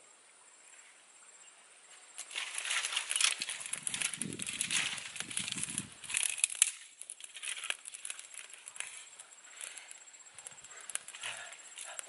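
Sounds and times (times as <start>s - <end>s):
stick cracking: 2.2s - 12.0s
twigs snapping and clicking: 2.2s - 12.0s.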